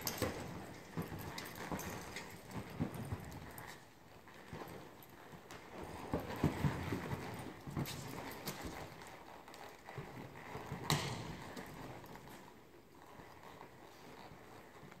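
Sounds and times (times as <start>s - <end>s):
horse hoofbeats on sand: 0.0s - 15.0s.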